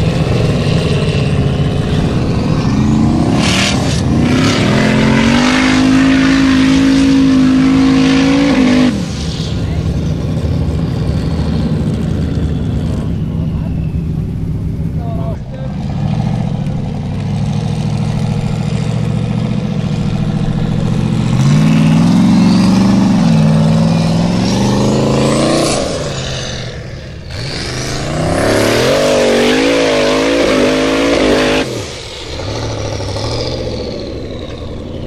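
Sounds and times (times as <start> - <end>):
buggy engine revving hard: 0.0 - 35.0.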